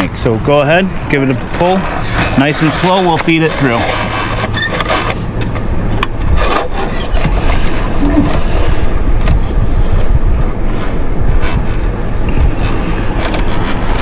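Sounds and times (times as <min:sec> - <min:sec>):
heavy low rumble: 0:00.0 - 0:14.0
cable rubbing and knocking: 0:01.2 - 0:14.0.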